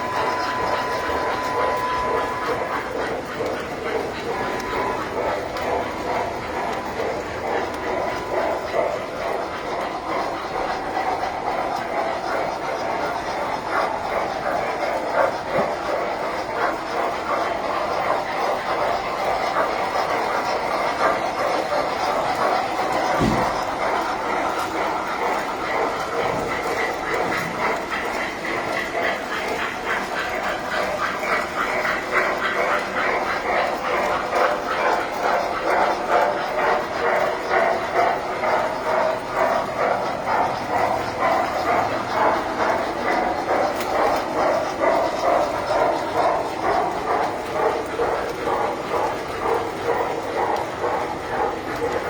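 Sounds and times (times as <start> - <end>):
model trains rolling rumble: 0.0 - 52.0
wheels clicking over rail joints: 0.0 - 52.0.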